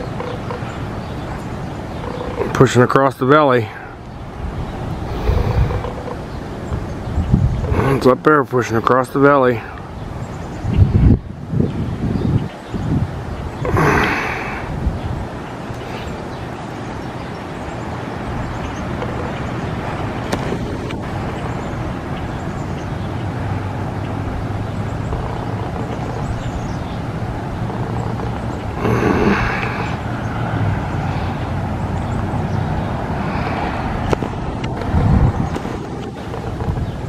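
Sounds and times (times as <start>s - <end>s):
outdoor rumble: 0.0s - 8.9s, 13.4s - 37.0s.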